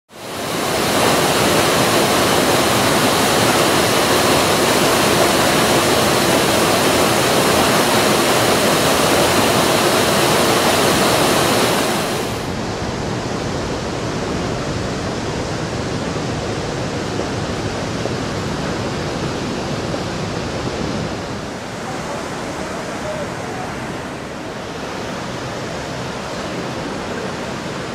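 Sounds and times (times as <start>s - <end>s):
water rushing over fountain ledge: 0.1s - 27.9s.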